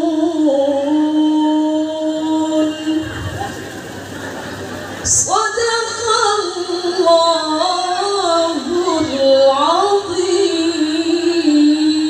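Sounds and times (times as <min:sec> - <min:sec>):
woman reciting melodically: 0:00.0 - 0:03.4, 0:05.0 - 0:12.0.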